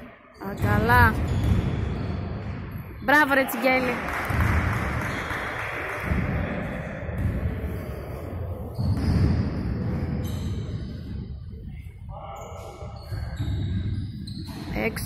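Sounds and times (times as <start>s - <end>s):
crowd and bench noise: 0.0s - 15.0s.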